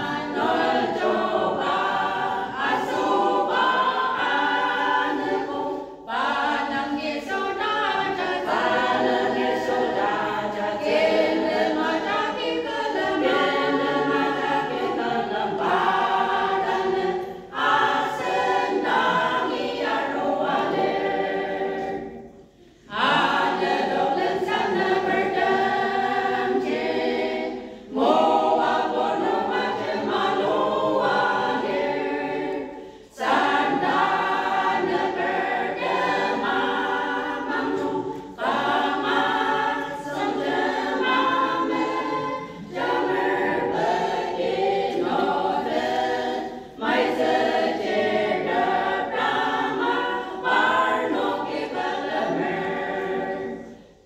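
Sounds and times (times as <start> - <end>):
women's choir singing a hymn: 0.0 - 54.0.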